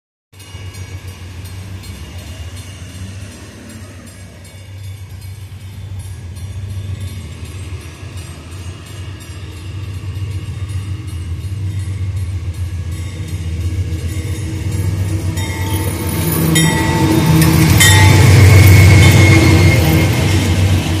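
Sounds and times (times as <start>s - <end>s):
rail noise: 0.3s - 21.0s
diesel locomotive engine rumbling: 0.4s - 21.0s
high steady tones: 0.4s - 21.0s.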